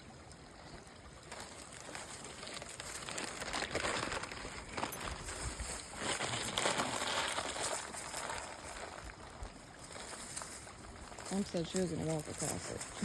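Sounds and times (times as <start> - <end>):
dry leaves rustling and crackling: 1.3 - 13.0.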